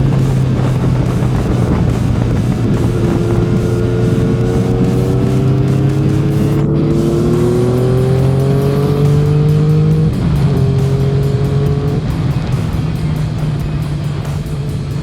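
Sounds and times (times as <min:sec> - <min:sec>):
motorcycle engine revving: 0:00.0 - 0:15.0
music: 0:00.0 - 0:15.0.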